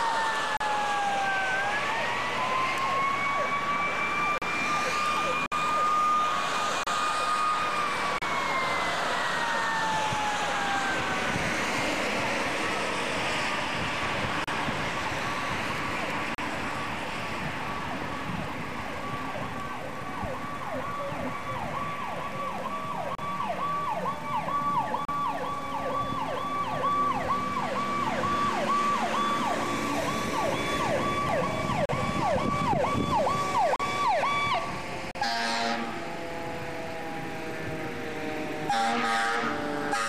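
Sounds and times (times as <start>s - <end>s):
fire engine siren yelping: 0.0s - 40.0s
road traffic passing: 0.0s - 40.0s.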